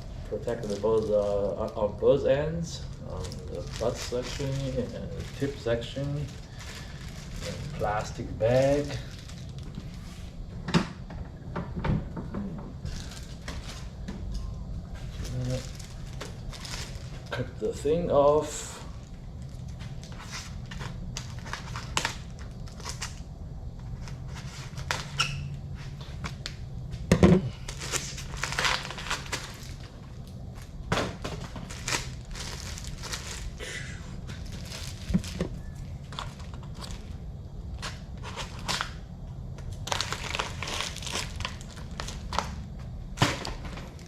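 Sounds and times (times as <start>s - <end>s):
plastic rustling and tearing: 0.0s - 10.3s, 12.8s - 14.1s, 14.9s - 23.3s, 23.9s - 26.6s, 27.6s - 33.6s, 34.2s - 42.6s
steady low hum: 0.0s - 44.0s.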